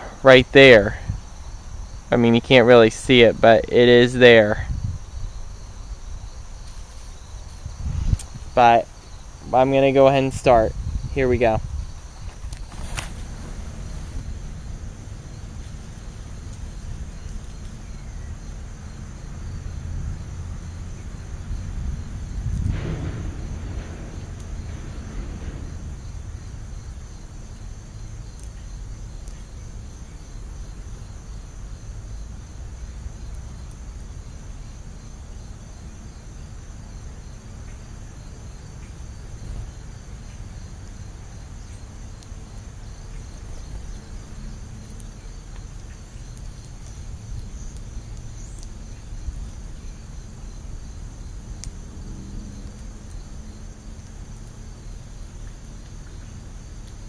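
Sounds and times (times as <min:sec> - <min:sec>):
crickets chirping: 0:00.0 - 0:57.0
low steady rumble: 0:00.0 - 0:57.0.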